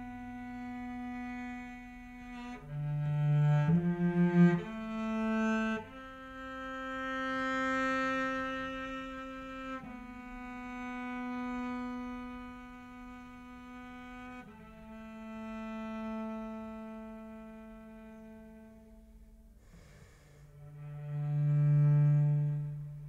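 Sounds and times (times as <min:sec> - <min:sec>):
solo cello playing: 0:00.0 - 0:23.0.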